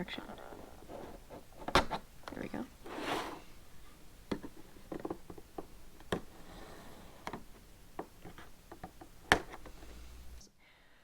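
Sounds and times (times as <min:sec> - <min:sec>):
hands handling cardboard box: 0:00.1 - 0:03.5, 0:04.2 - 0:10.3.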